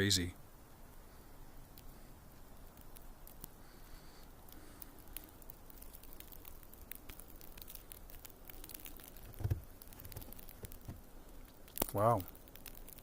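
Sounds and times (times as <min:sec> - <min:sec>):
wet snow pattering: 0:00.9 - 0:13.0.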